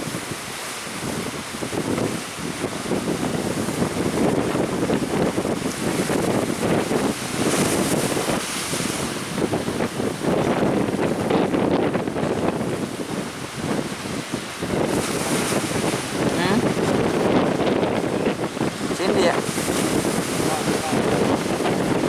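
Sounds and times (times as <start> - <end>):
rush of surf: 0.0 - 22.0
wind buffeting microphone: 0.0 - 22.0.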